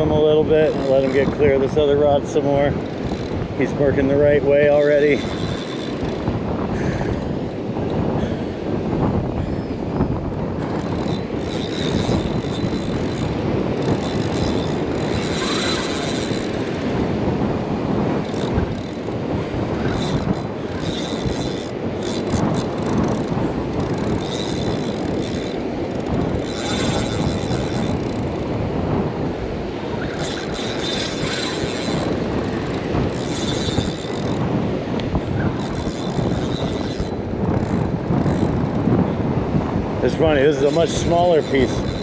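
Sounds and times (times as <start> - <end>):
fishing reel whirring: 0.0 - 8.6, 9.2 - 28.6, 29.2 - 39.0, 40.5 - 42.0
wind rumbling on microphone: 0.0 - 42.0.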